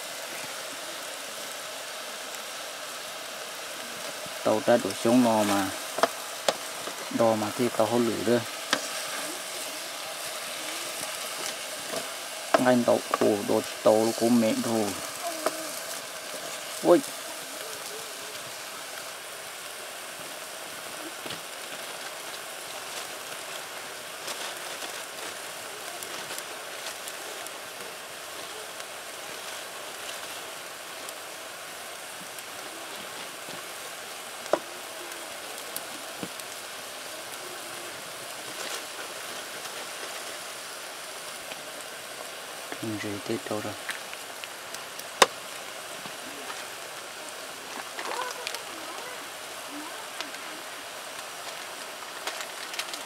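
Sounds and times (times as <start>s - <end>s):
meat sizzling in a pot: 0.0s - 53.0s
wood fire crackling: 0.0s - 53.0s.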